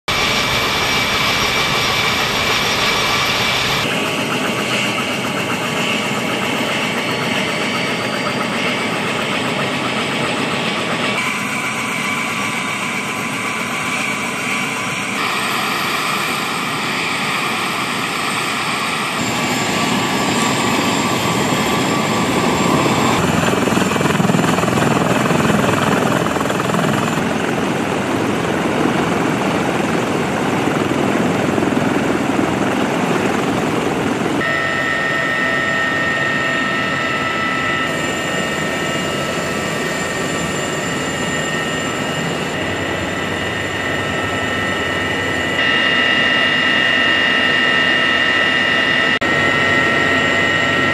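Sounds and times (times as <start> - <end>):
helicopter engines whining: 0.1 - 50.9
helicopter rotor rushing: 0.1 - 50.9.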